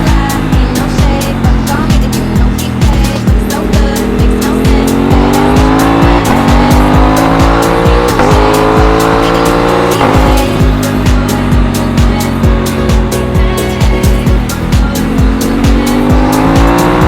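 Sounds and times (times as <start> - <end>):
motorcycle engine accelerating: 0.0 - 17.0
music with fast beat and bass: 0.0 - 17.0.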